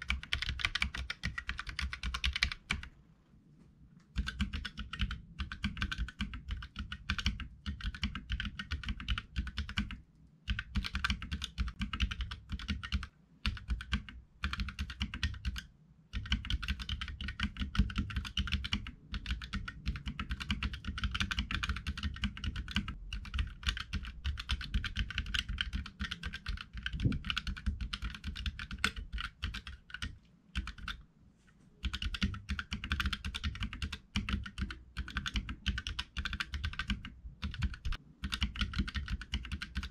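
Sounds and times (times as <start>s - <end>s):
mechanical keyboard typing: 0.0s - 2.9s, 4.2s - 31.0s, 31.8s - 39.9s.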